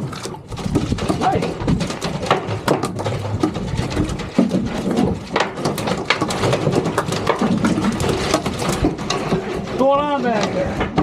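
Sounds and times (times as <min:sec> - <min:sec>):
fish thrashing in box: 0:00.0 - 0:09.8.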